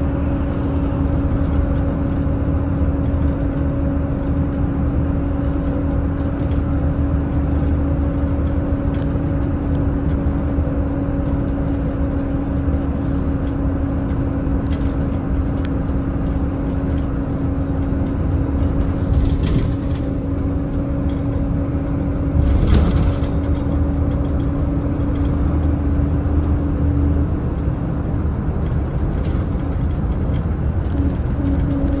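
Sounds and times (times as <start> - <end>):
bus engine and road drone: 0.0 - 32.0.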